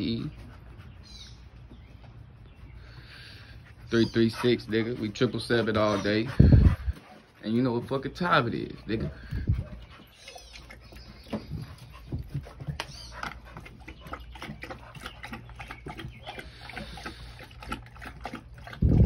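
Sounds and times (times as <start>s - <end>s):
dog lapping water: 3.1s - 19.0s.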